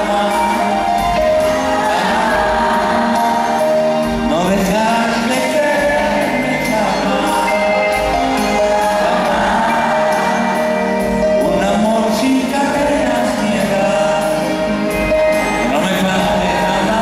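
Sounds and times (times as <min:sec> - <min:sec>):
band accompaniment: 0:00.0 - 0:17.0
man singing into microphone: 0:00.0 - 0:17.0.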